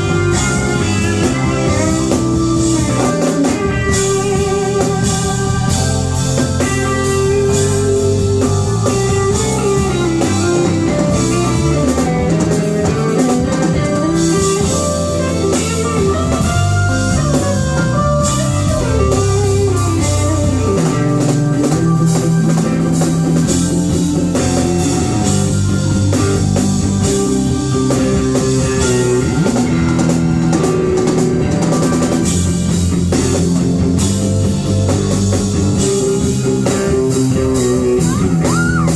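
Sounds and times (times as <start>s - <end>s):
drum kit: 0.0s - 38.9s
electric guitar lead lines: 0.0s - 38.9s
low steady bass notes: 0.0s - 38.9s.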